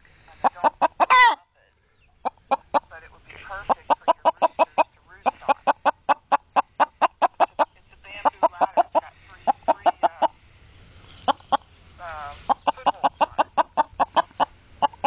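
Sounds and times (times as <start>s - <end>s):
hen clucking: 0.0s - 10.4s, 11.0s - 15.0s.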